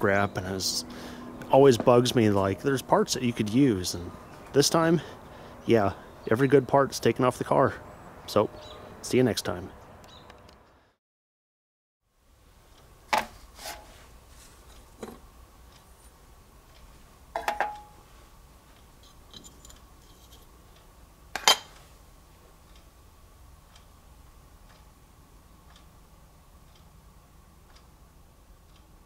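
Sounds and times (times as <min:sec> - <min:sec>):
faint steady hum: 0:00.0 - 0:11.0, 0:12.1 - 0:29.0.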